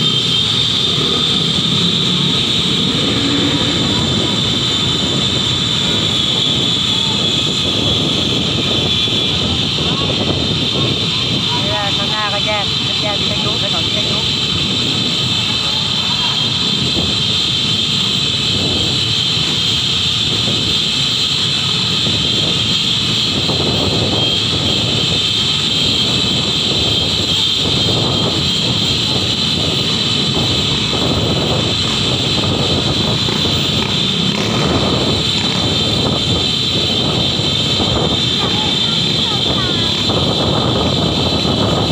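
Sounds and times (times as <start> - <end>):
constant high whine: 0.0 - 41.9
traffic and engine noise: 0.0 - 41.9.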